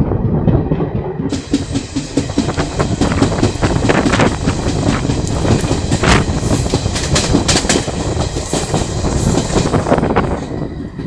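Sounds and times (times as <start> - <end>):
rush of air: 0.0 - 11.0
train wheels clattering on rails: 0.0 - 11.0
wheels clacking over rail joints: 0.2 - 11.0.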